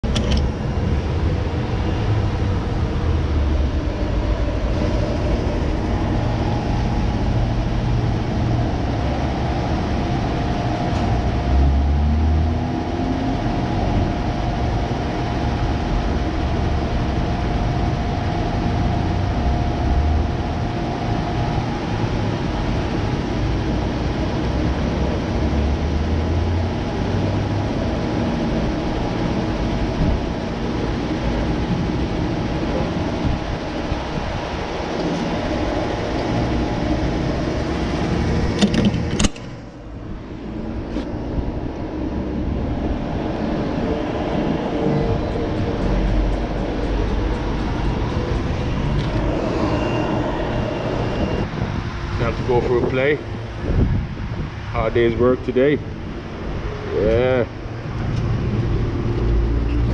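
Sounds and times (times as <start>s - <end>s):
faint steady whine: 0.0s - 59.9s
road traffic rumble: 0.0s - 59.9s.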